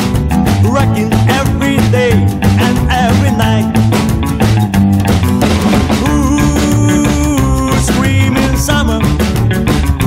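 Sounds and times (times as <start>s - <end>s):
drum kit: 0.0s - 10.0s
plucked double bass: 0.0s - 10.0s.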